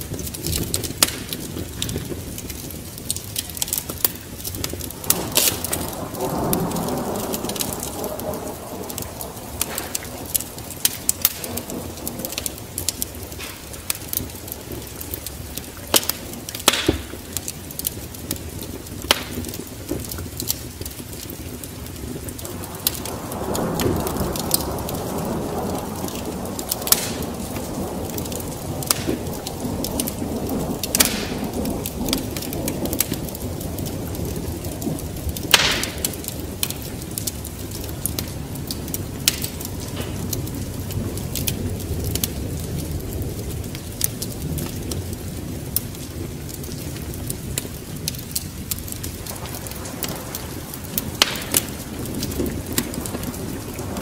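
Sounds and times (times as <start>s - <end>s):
rain hiss: 0.0s - 54.0s
wood fire crackling: 0.0s - 54.0s.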